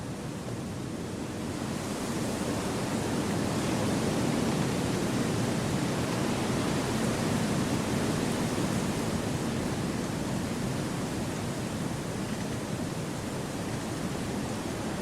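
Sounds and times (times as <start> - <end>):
wind through trees: 0.1 - 15.0.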